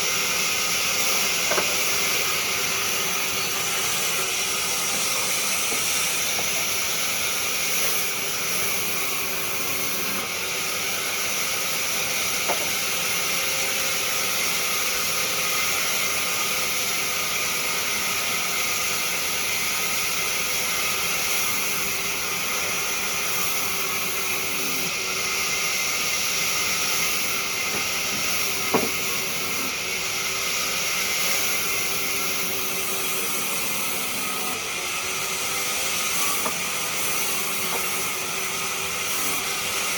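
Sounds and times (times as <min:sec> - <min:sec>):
lathe tool cutting wood hiss: 0:00.0 - 0:39.9.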